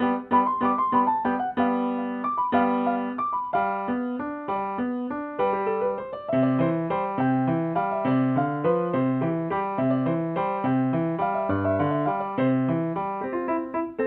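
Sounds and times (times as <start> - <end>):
solo piano piece: 0.0 - 14.0.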